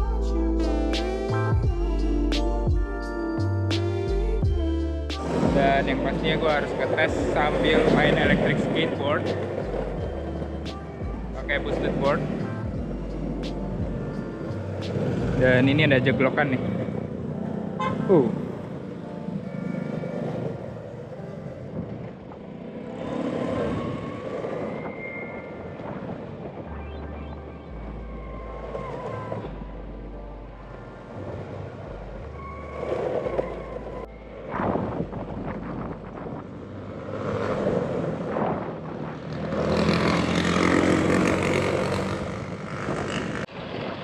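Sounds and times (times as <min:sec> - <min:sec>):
traffic: 0:00.0 - 0:44.0
wind noise: 0:03.9 - 0:44.0
electric skateboard rumbling: 0:04.0 - 0:44.0.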